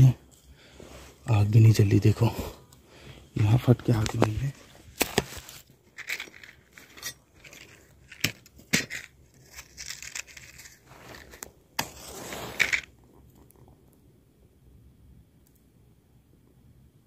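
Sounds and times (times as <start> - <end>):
rustling of kindling: 0.0 - 13.7.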